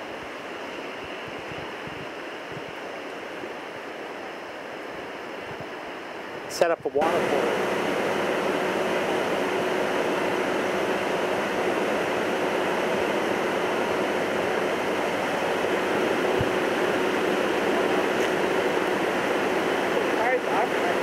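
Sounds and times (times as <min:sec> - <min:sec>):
faint hum: 0:00.0 - 0:21.0
floodwater rushing: 0:00.0 - 0:21.0.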